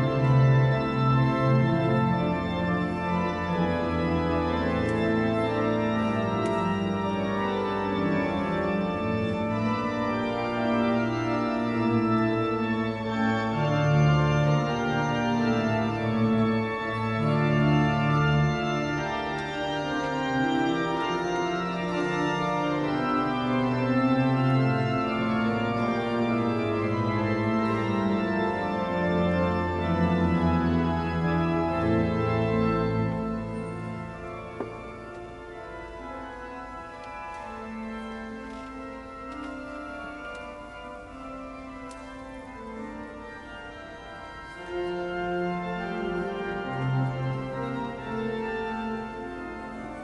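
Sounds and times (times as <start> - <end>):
pipe organ playing chords: 0.0 - 50.0.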